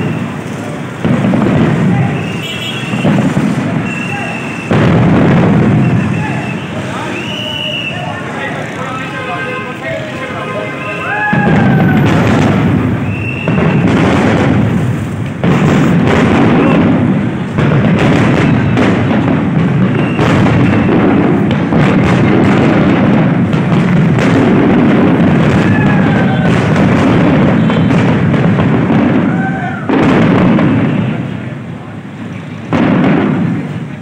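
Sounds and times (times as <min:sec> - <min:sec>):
firework bursts and crackle: 0:00.0 - 0:34.0.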